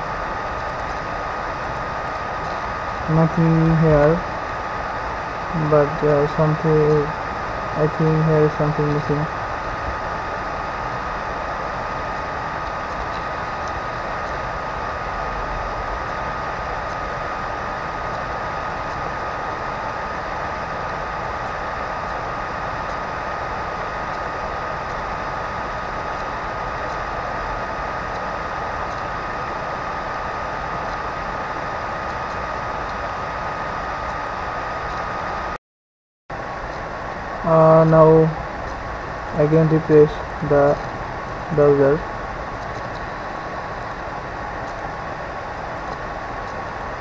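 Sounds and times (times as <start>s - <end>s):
constant high whine: 0.0s - 35.6s, 36.3s - 47.0s
microphone hiss: 0.0s - 35.6s, 36.4s - 47.0s.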